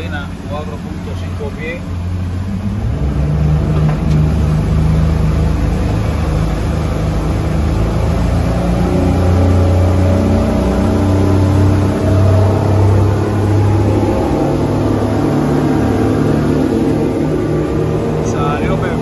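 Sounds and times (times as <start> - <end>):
motorboat engine drone: 0.0 - 19.0.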